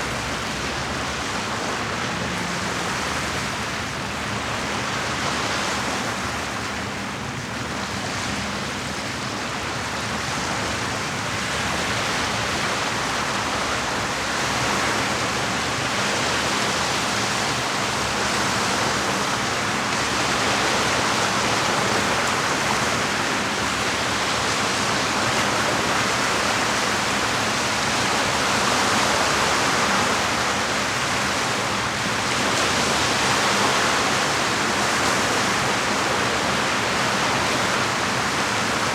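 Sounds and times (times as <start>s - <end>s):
lake water washing against shore: 0.0s - 38.9s.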